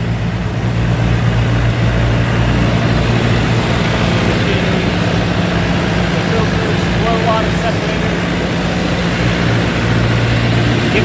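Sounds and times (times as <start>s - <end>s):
engine humming with hiss: 0.0s - 11.0s.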